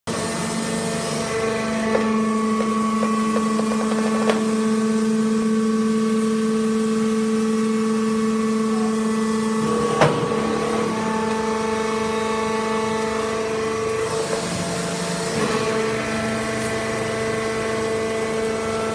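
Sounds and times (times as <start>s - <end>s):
hydraulic press humming: 0.1s - 18.9s.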